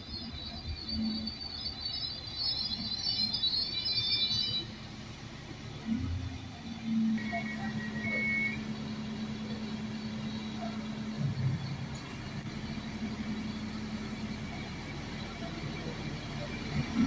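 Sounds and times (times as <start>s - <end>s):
diesel railcar engine hum: 0.0s - 17.0s.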